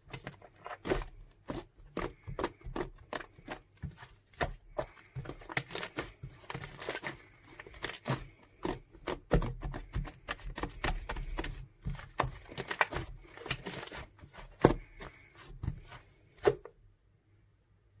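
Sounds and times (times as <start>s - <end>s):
rustling: 0.0s - 16.7s.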